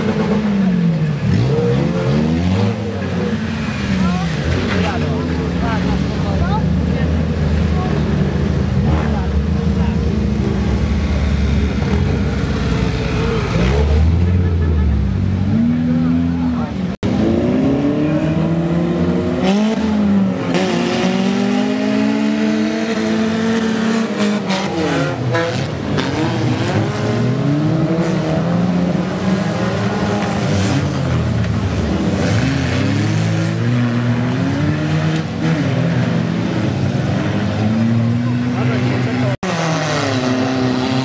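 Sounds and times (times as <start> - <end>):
race car engines revving: 0.0 - 41.0.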